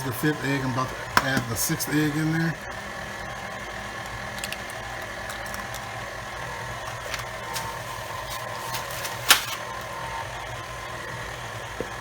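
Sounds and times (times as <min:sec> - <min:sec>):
electric stand mixer running: 0:00.0 - 0:12.0.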